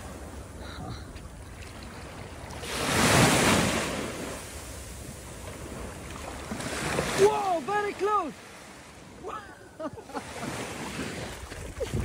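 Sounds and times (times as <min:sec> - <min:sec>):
small waves breaking on shore: 0:00.0 - 0:12.0.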